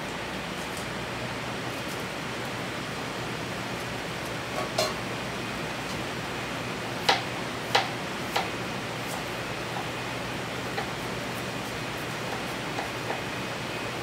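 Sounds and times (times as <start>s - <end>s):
rushing kitchen background noise: 0.0s - 14.0s.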